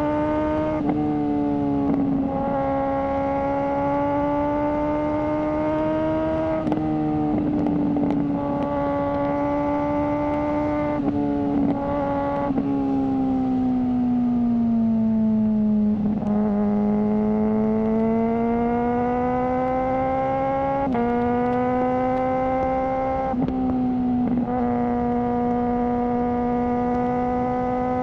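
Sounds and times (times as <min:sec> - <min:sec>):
motorcycle engine high-revving: 0:00.0 - 0:28.0.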